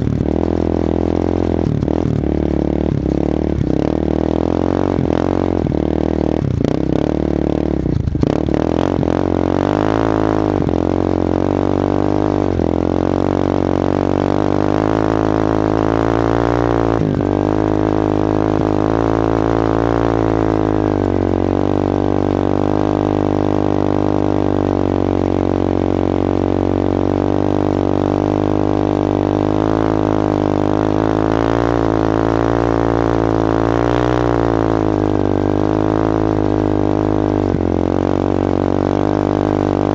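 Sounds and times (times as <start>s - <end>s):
atv engine revving under load: 0.0s - 39.9s.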